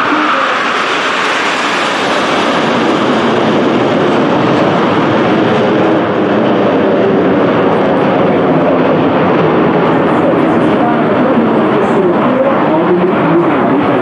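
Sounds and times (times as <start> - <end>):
jet engines rushing overhead: 0.0 - 14.0.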